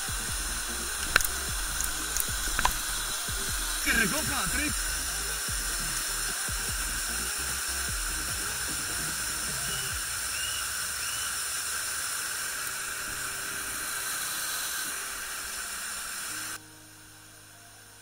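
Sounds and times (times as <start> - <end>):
rushing water hiss: 0.0 - 18.0.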